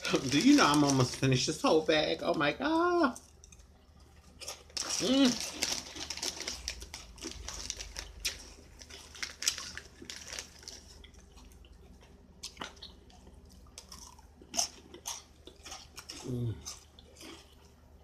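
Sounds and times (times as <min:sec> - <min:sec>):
crunchy snack chewing: 0:03.4 - 0:17.8.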